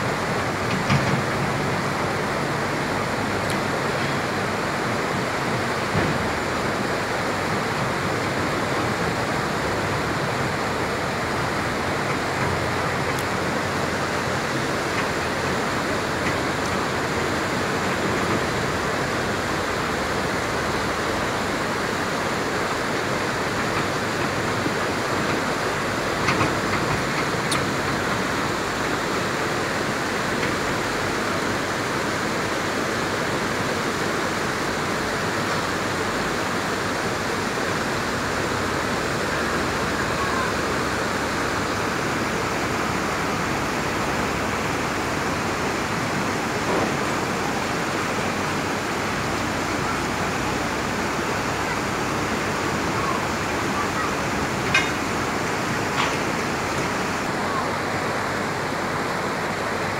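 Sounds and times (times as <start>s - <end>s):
river water rushing over rapids: 0.0s - 59.9s.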